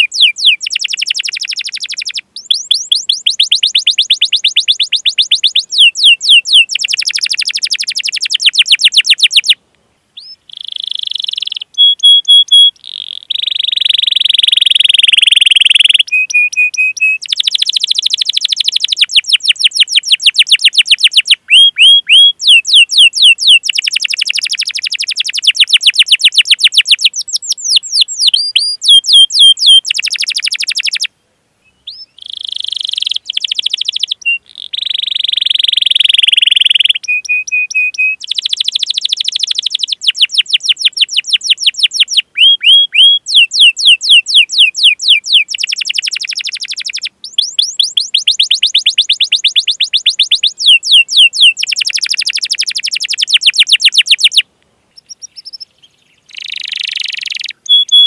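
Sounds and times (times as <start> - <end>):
canary singing trills: 0.0 - 9.6, 10.2 - 58.0.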